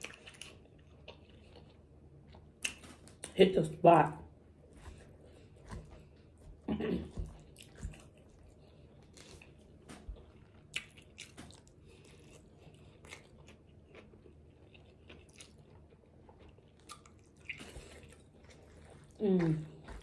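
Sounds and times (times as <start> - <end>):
faint close-up chewing: 0.0 - 3.4, 4.6 - 20.0.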